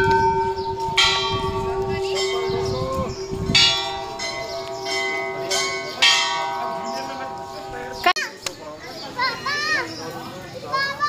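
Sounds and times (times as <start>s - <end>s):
temple bell ringing: 0.0s - 9.6s.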